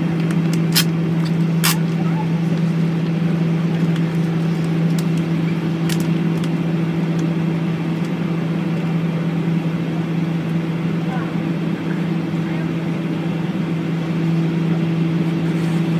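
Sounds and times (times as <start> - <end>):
airliner cabin drone: 0.0 - 15.9.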